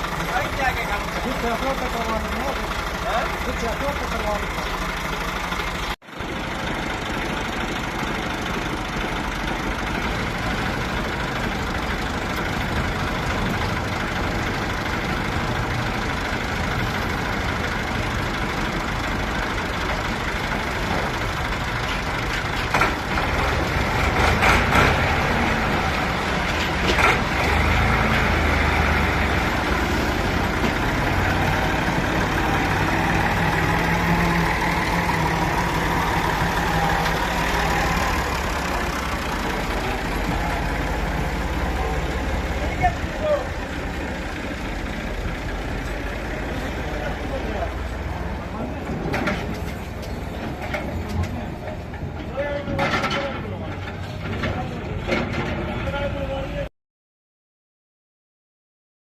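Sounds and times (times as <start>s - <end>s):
engine knocks: 0.0s - 56.0s
tractor diesel engine running: 0.0s - 56.6s.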